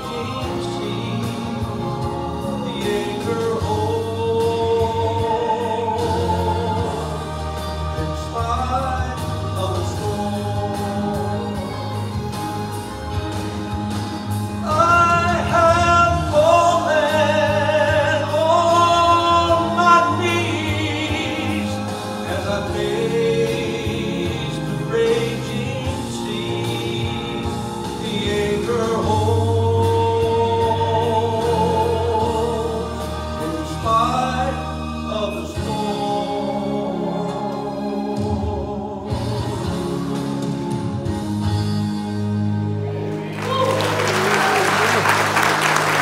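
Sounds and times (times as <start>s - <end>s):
man singing into microphone: 0.0s - 12.0s, 14.6s - 40.2s
instrumental accompaniment: 0.0s - 46.0s.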